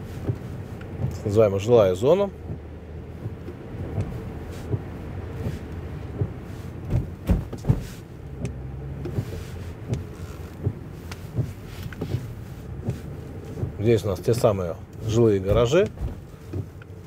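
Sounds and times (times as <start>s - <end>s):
car engine and road hum: 0.0s - 17.0s
short thumps: 0.2s - 1.4s, 2.4s - 17.0s.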